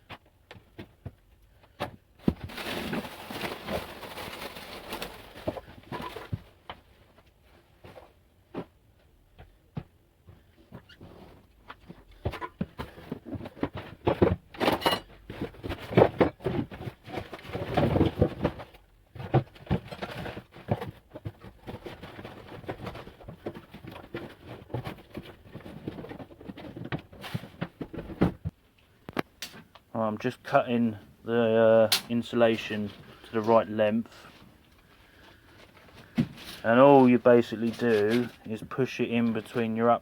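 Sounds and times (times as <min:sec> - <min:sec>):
insulation rustling and scraping: 0:00.1 - 0:40.0.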